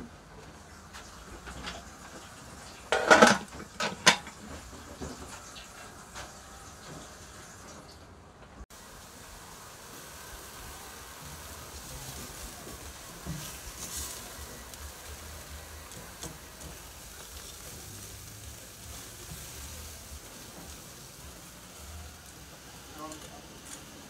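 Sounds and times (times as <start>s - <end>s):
chicken sizzling on grill: 0.0s - 8.0s, 8.7s - 24.0s.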